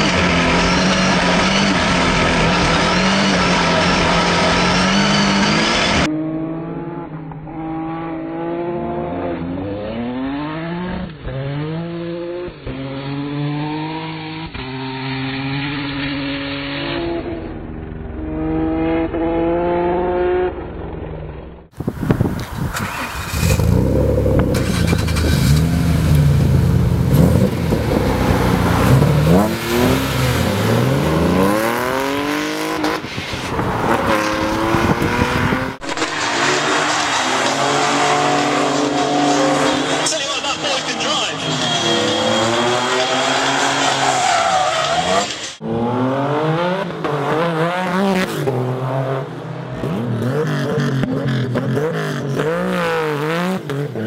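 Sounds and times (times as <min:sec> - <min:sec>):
rally car accelerating hard: 0:00.0 - 0:21.2, 0:21.8 - 0:54.0
rally car engine revving: 0:00.0 - 0:54.0.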